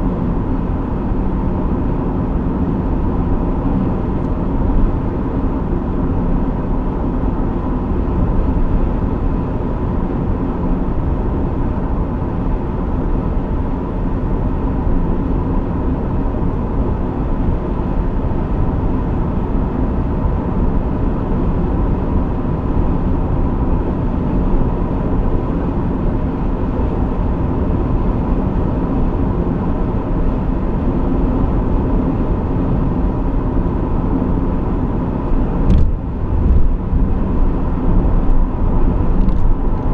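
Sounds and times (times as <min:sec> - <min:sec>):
car driving steadily: 0:00.0 - 0:39.9.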